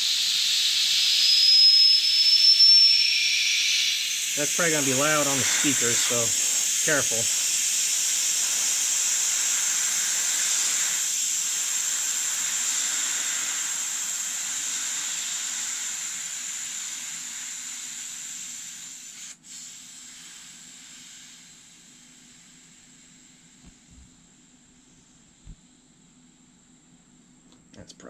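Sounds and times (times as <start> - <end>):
air hissing out of a tire: 0.0 - 25.7.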